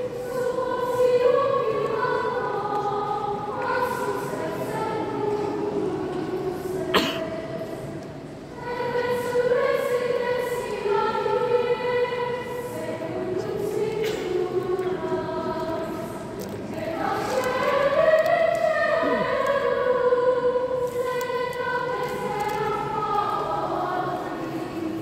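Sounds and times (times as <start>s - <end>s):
girls' choir singing: 0.0s - 25.0s.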